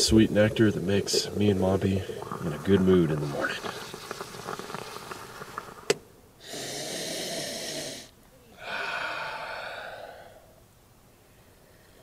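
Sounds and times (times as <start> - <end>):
breathy hisses: 0.4 - 10.6.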